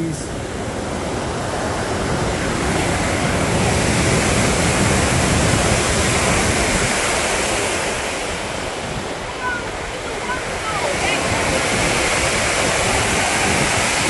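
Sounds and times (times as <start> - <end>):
falling water rushing: 0.0 - 14.0.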